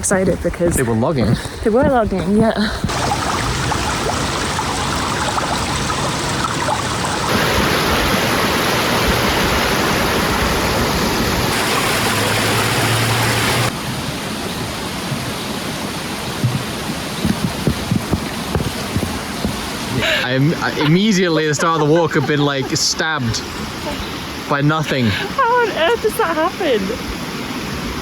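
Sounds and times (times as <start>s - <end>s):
stream water rushing: 2.9s - 28.0s.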